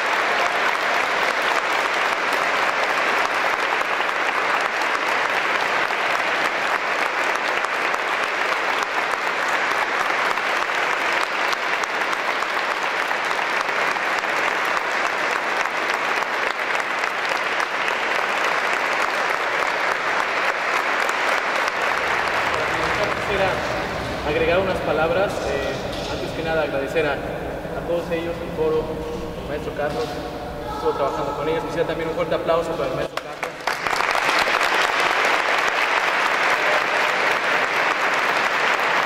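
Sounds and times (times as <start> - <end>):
audience applauding: 0.0 - 27.1, 30.8 - 39.0.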